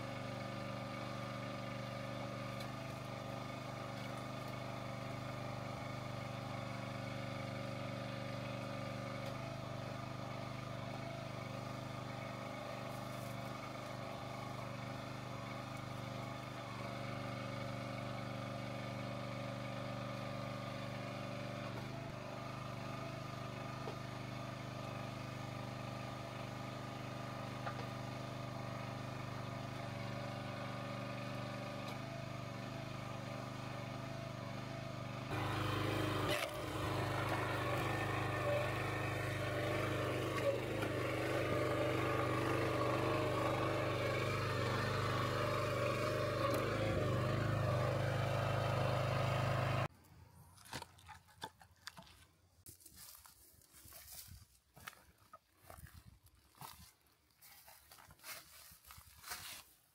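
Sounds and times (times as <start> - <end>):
small gas engine running: 0.0 - 49.9.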